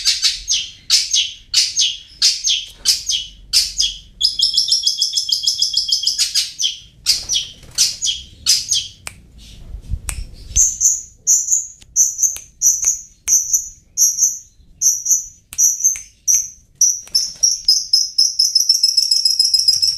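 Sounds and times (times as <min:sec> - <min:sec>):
bird singing: 0:00.0 - 0:09.6, 0:10.4 - 0:19.9.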